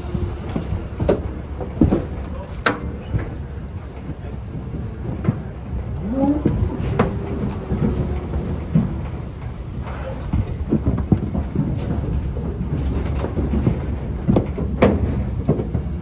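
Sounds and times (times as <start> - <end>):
sharp knocks and clanks: 0.0 - 3.4, 6.0 - 16.0
trailer rumbling: 0.0 - 16.0.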